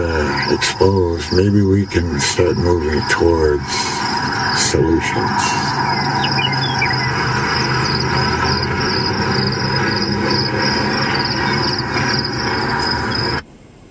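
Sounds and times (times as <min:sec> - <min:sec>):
car road and engine noise: 0:00.0 - 0:13.6
steady high whine: 0:00.0 - 0:13.9.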